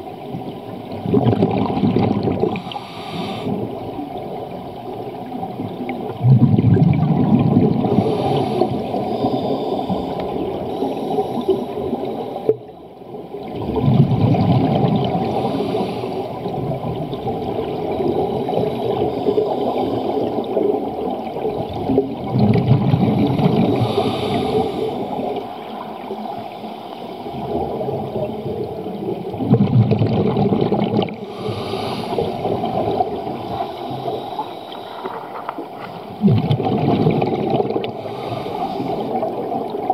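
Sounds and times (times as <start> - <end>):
underwater exhale bubbles rumbling: 0.0 - 39.9.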